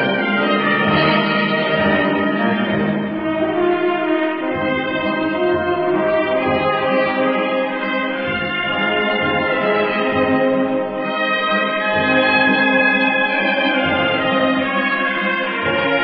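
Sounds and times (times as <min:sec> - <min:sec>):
wind band playing a funeral march: 0:00.0 - 0:16.0.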